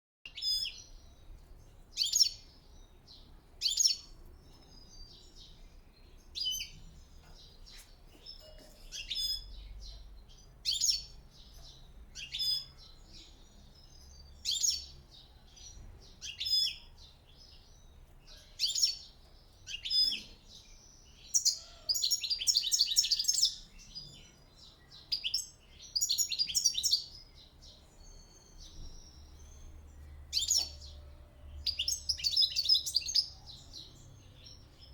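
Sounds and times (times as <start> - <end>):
goldfinches chirping and twittering: 0.3 - 34.9.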